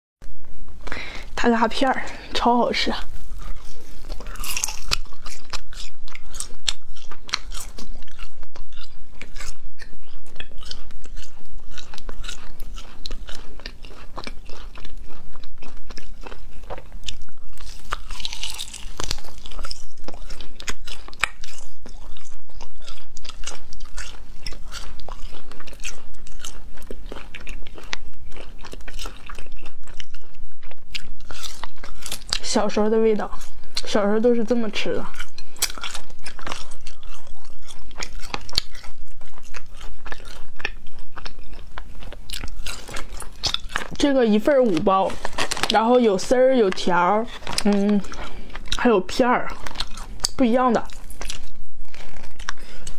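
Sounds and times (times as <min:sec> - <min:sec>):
crunchy chewing: 0:00.8 - 0:52.9.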